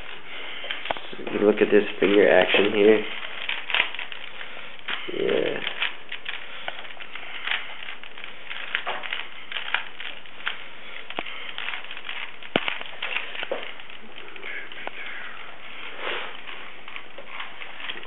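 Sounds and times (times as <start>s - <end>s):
puzzle cube plastic clicks: 0.0s - 15.3s
steady hiss: 0.0s - 18.0s.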